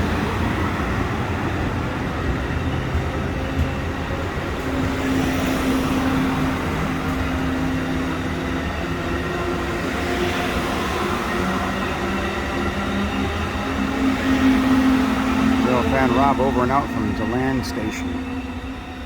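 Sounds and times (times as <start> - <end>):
train rumbling on tracks: 0.0 - 19.0.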